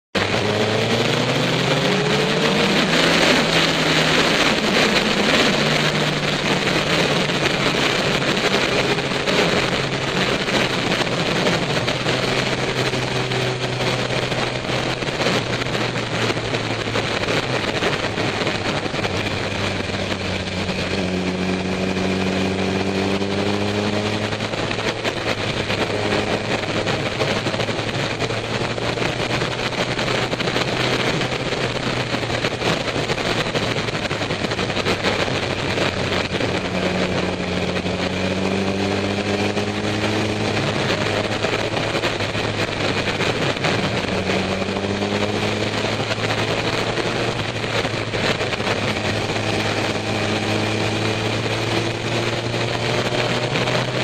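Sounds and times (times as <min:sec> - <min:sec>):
motorcycle engine running: 0:00.1 - 0:54.0
wind and road noise: 0:00.1 - 0:54.0.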